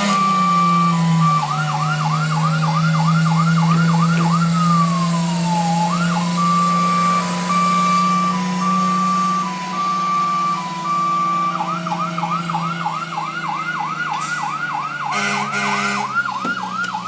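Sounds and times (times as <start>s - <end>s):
fire truck siren: 0.0s - 17.0s.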